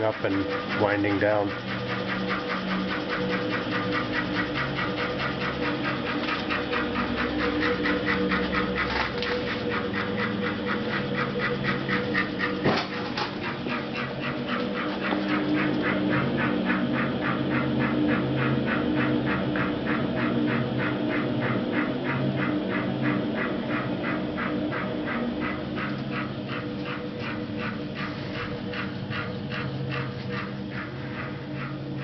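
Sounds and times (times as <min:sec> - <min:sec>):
vacuum motor pulsing hum: 0:00.0 - 0:32.0.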